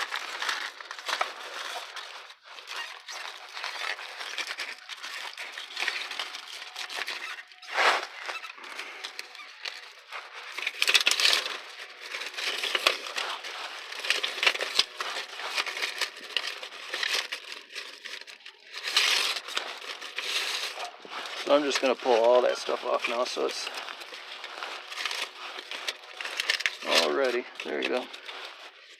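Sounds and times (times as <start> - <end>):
plastic film crinkling: 0.0 - 28.9.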